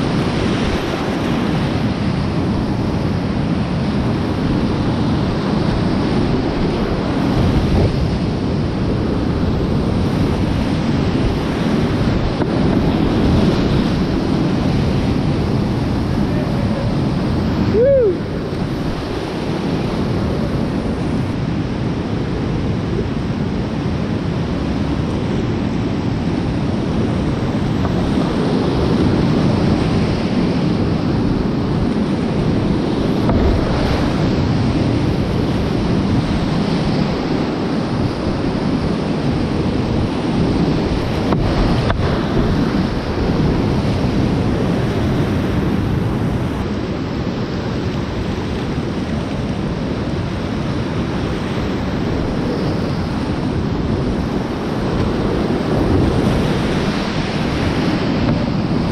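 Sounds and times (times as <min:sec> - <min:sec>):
whitewater rapids rushing: 0:00.0 - 0:58.9
wind buffeting microphone: 0:00.0 - 0:58.9.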